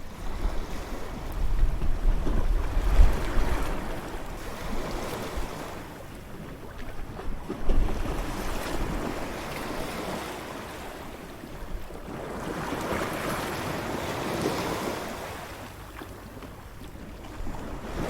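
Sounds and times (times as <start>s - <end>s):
wind rumbling on microphone: 0.0s - 15.2s, 16.5s - 18.0s
waves breaking on shore: 0.0s - 18.0s.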